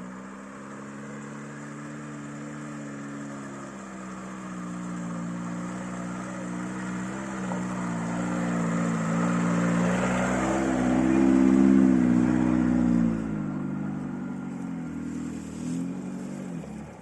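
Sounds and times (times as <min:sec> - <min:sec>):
car engine pulling under load: 0:00.0 - 0:17.0.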